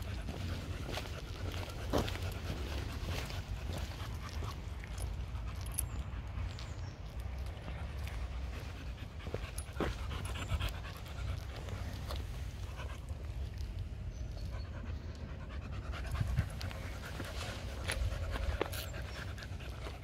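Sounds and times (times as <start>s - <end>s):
dog panting: 0.0s - 7.0s, 7.6s - 13.6s, 14.3s - 20.0s.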